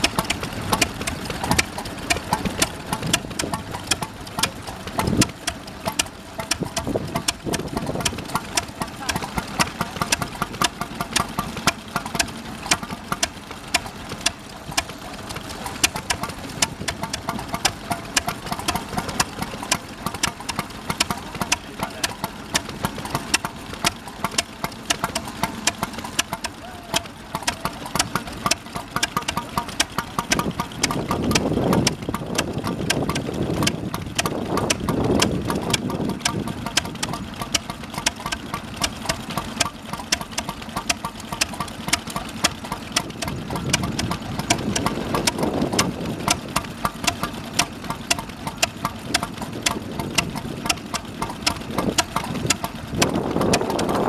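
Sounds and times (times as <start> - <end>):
stationary engine running: 0.0 - 54.0.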